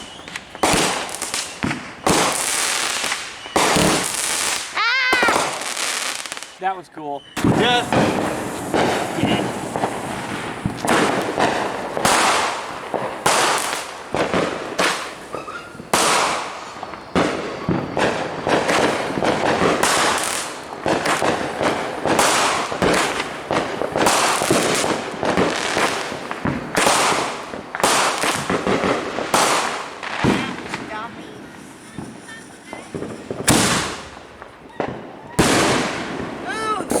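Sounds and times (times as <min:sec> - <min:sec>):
fireworks bangs with crackle: 0:00.0 - 0:37.0.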